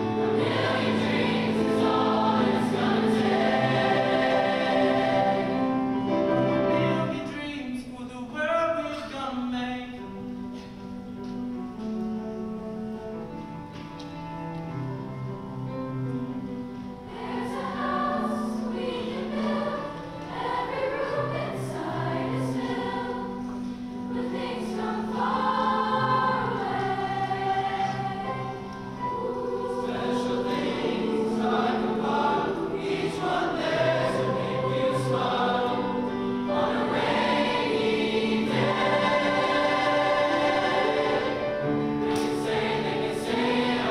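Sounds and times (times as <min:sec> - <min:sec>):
choir singing in harmony: 0:00.0 - 0:07.4, 0:15.0 - 0:43.9.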